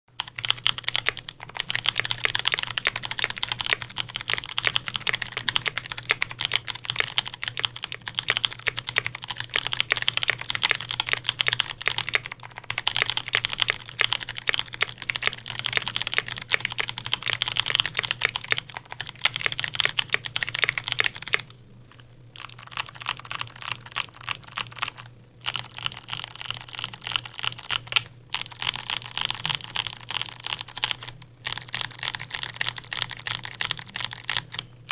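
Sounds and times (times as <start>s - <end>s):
clicky mechanical keyboard typing: 0.1s - 34.9s.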